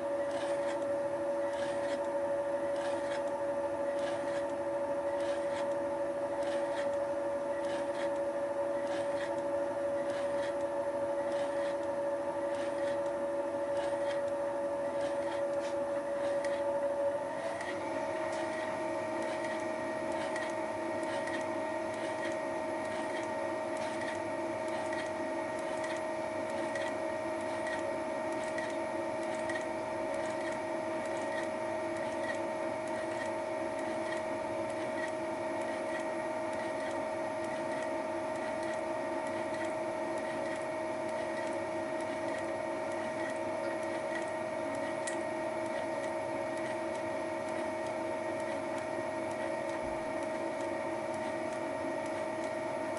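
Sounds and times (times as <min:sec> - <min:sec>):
milling machine whining: 0:00.0 - 0:52.9.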